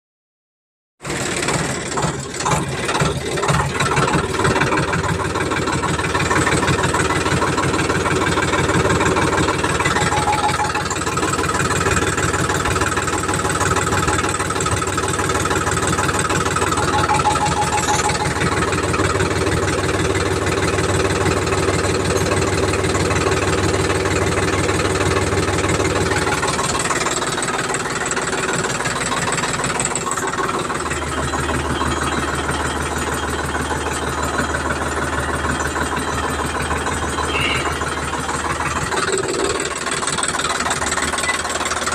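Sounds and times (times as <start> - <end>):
tractor diesel engine idling: 1.0 - 41.9.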